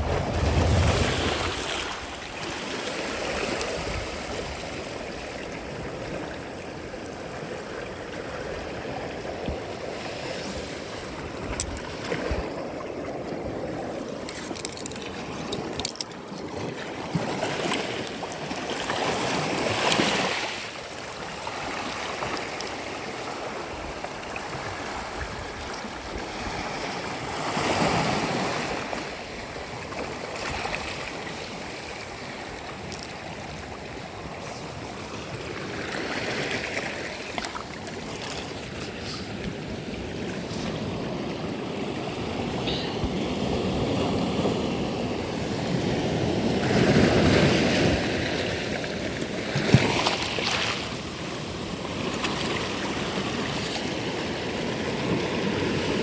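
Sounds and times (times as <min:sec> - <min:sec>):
sea waves on a sandy beach: 0:00.0 - 0:56.0.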